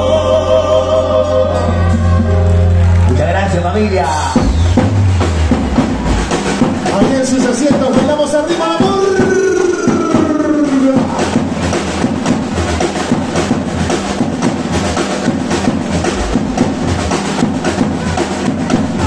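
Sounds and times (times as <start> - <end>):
bass guitar: 0.0 - 19.0
timbales and congas: 0.0 - 19.0.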